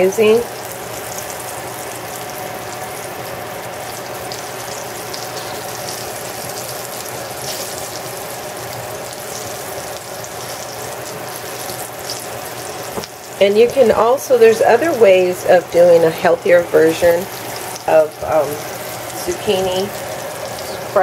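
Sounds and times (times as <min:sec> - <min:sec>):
zucchini frying in a skillet: 0:00.0 - 0:21.0.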